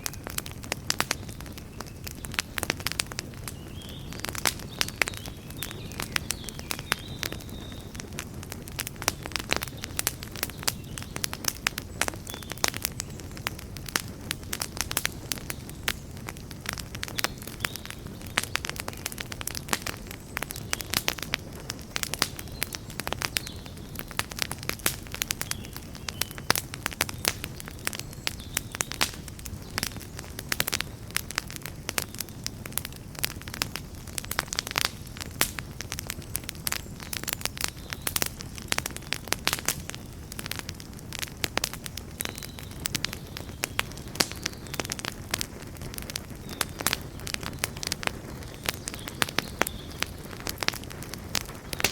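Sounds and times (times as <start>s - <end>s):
campfire crackling and popping: 0.0s - 51.9s
low rumble of flames: 0.0s - 51.9s.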